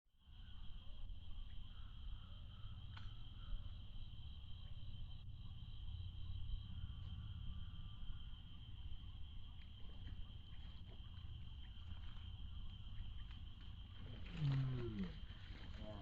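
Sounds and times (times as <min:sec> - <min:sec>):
insects chirring: 0:00.2 - 0:16.0.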